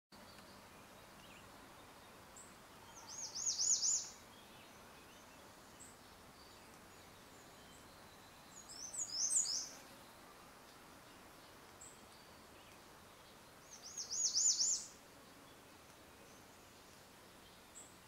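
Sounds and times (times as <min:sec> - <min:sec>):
faint outdoor hiss: 0:00.1 - 0:18.0
songbird singing: 0:00.1 - 0:18.0.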